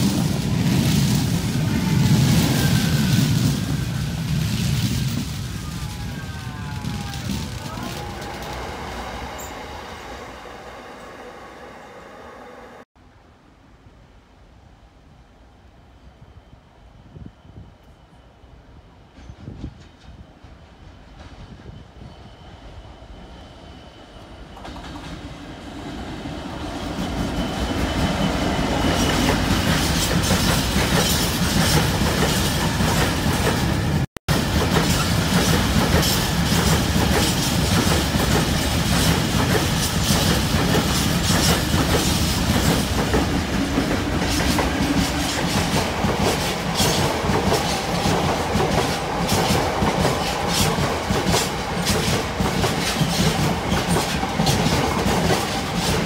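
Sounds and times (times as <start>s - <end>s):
train rumble: 0.0s - 12.9s, 16.9s - 56.0s.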